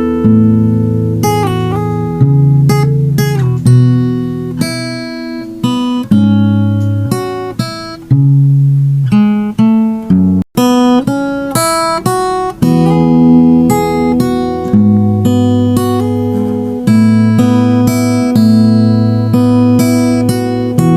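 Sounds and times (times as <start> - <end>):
plucked guitar notes and chords: 0.0 - 20.9.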